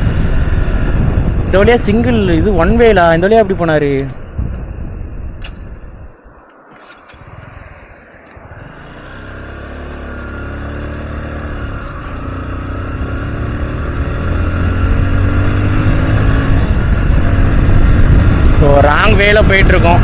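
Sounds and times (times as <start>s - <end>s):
heavy wind rumble: 0.0s - 20.0s.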